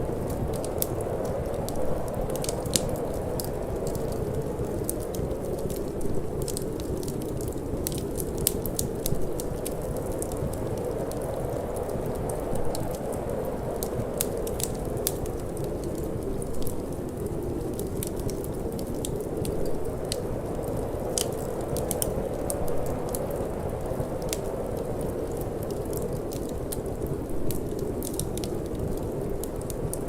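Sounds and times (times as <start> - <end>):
low rush of wind: 0.0 - 30.0
wood fire crackling and popping: 0.0 - 30.0.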